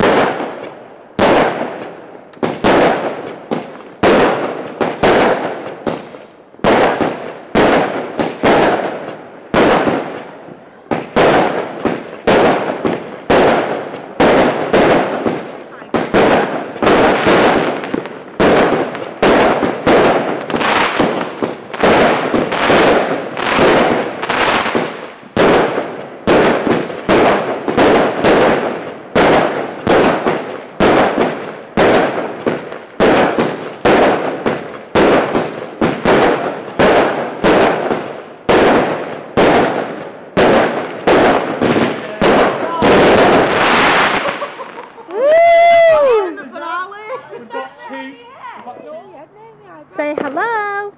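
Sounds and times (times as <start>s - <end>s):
fireworks banging: 0.0s - 50.9s.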